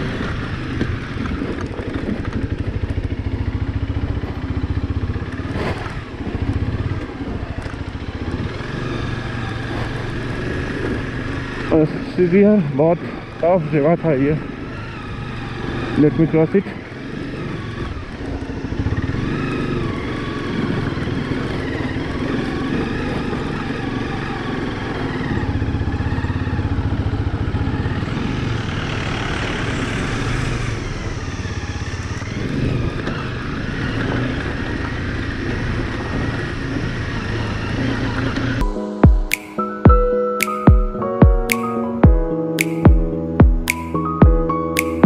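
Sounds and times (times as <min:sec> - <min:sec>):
motorcycle engine revving: 0:00.0 - 0:38.7.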